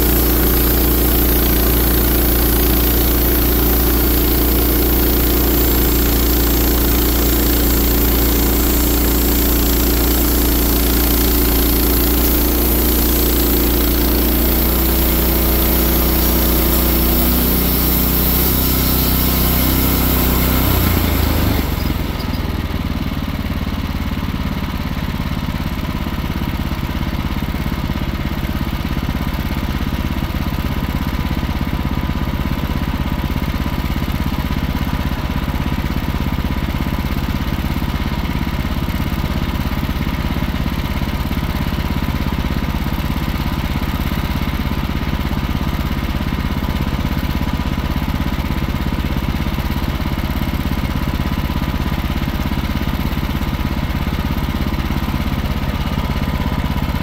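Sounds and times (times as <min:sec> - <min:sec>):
sawmill gas engine running: 0:00.0 - 0:57.0.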